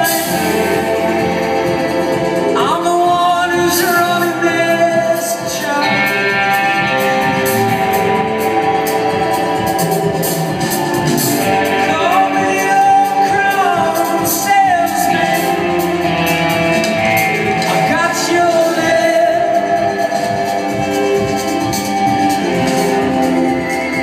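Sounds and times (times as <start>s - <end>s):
man singing gliding notes: 0.0s - 9.1s, 11.5s - 24.0s
live rock band music: 0.0s - 24.0s.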